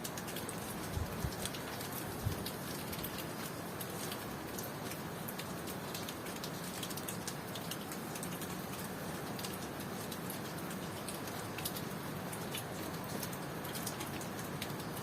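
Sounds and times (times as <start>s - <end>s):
raindrops ticking: 0.0s - 15.0s.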